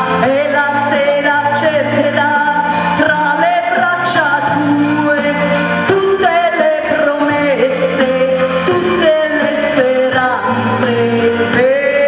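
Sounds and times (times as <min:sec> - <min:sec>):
instrumental accompaniment: 0:00.0 - 0:12.0
woman singing into microphone: 0:00.0 - 0:12.0.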